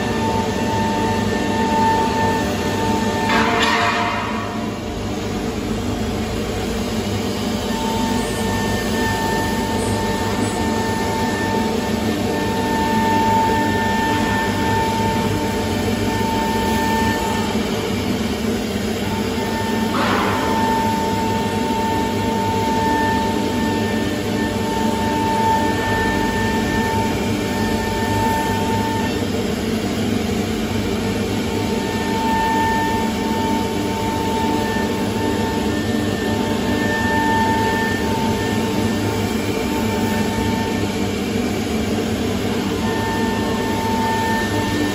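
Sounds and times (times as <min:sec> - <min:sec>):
router spindle high whine: 0:00.0 - 0:03.3, 0:04.0 - 0:44.9
low machine noise: 0:00.0 - 0:44.9.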